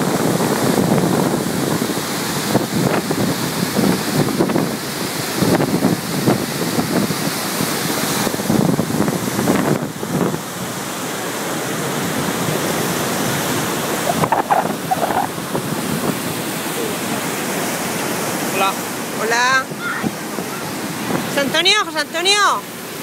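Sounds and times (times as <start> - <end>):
water rushing through dam: 0.0 - 23.0
wind buffeting microphone: 0.0 - 23.0.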